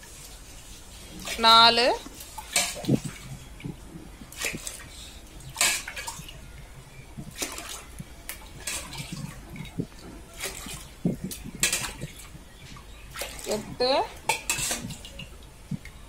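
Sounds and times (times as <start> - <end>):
water pouring and splashing: 0.0 - 16.0.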